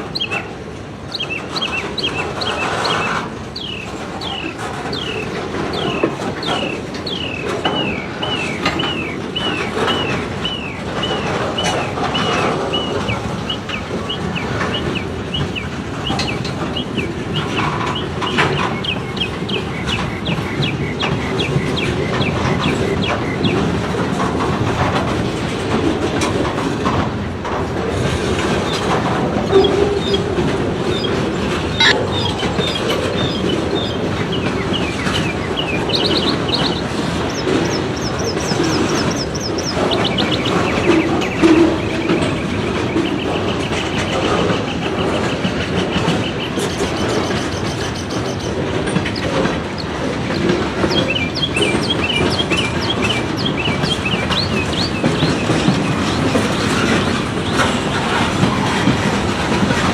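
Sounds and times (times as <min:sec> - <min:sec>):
train wheels clicking over rails: 0:00.0 - 0:59.9.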